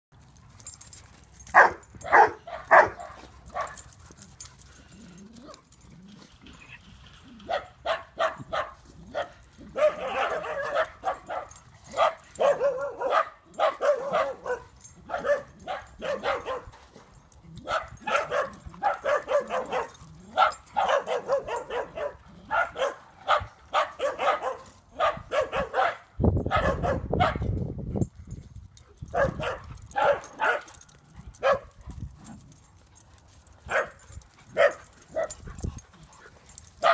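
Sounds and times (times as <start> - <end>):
dogs barking and yipping: 0.2 - 36.9.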